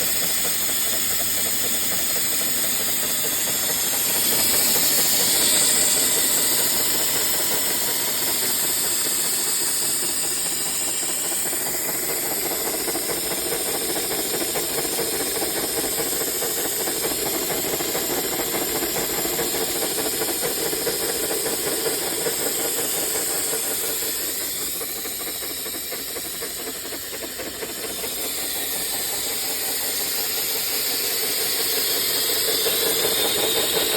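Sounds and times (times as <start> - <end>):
steam engine hissing: 0.0 - 33.9.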